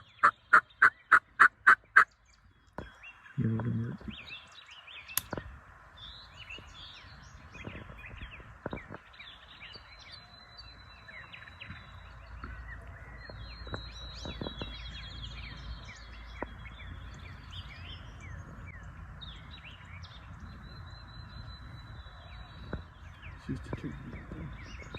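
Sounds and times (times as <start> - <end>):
songbirds chirping and trilling: 0.0 - 24.9.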